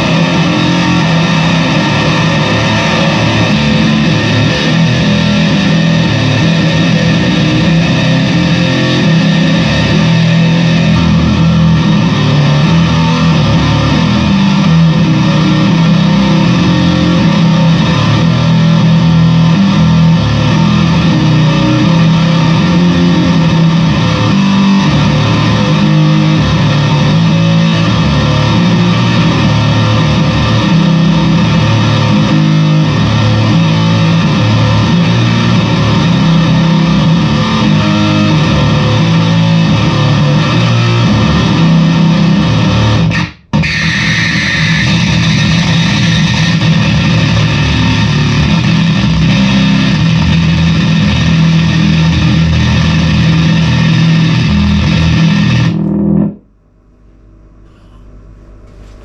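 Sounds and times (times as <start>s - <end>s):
fuzz-distorted bass guitar: 0.0s - 59.0s.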